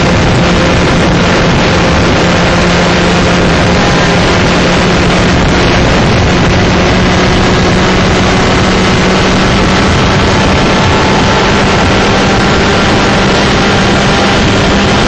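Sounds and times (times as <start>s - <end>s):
two-stroke kart engine running: 0.0s - 15.0s
wind over microphone: 0.0s - 15.0s.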